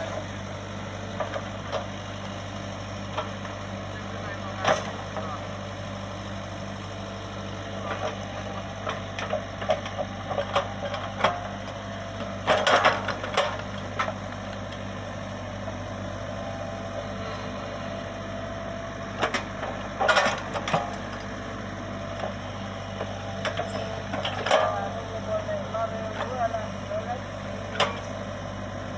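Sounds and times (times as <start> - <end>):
excavator diesel engine humming: 0.0 - 28.9.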